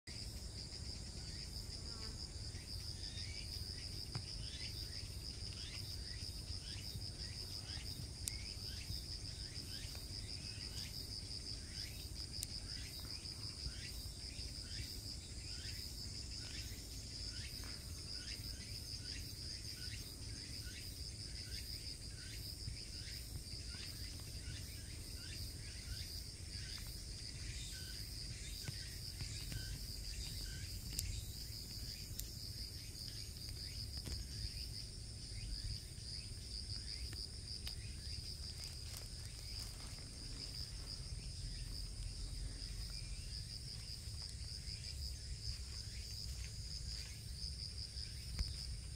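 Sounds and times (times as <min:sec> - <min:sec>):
falling insect chirps: 0:00.1 - 0:48.9
insects trilling: 0:00.1 - 0:48.9.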